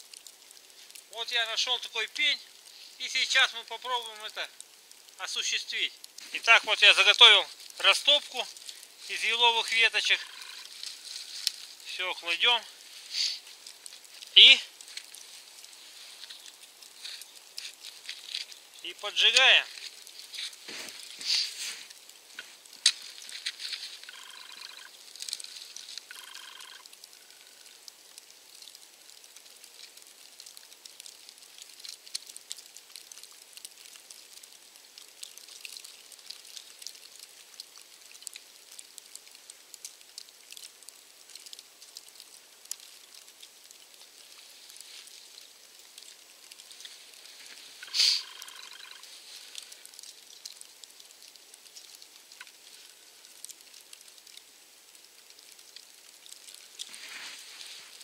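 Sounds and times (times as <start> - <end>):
kindling fire crackling: 0.0 - 58.0.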